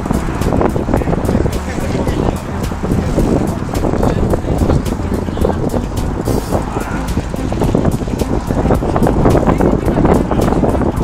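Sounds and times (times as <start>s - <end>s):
bike rattling and clicking: 0.0s - 11.0s
wind buffeting microphone: 0.0s - 11.0s.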